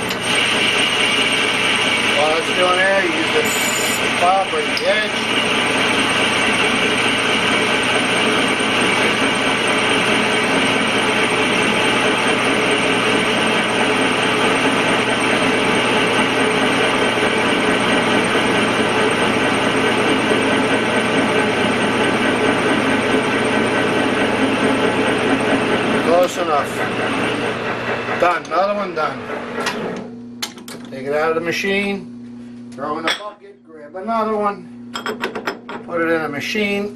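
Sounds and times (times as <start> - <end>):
metal lathe cutting: 0.0 - 30.6.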